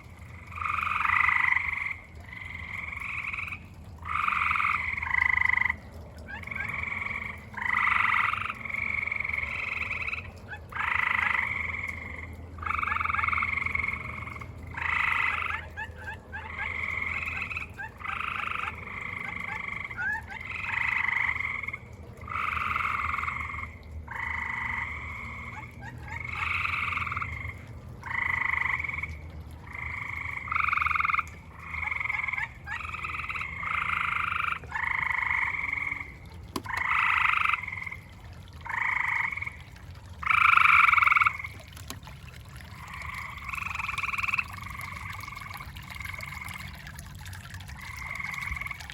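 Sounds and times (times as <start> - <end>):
frogs trilling: 0.0 - 48.9.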